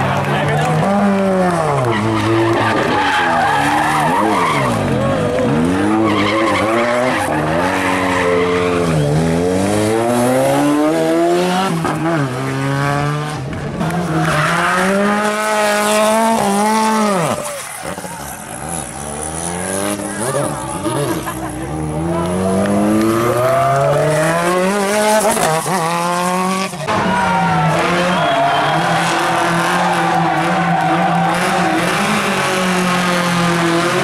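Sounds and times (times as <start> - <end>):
rally car engines revving: 0.0 - 34.0
tyres skidding: 0.0 - 34.0.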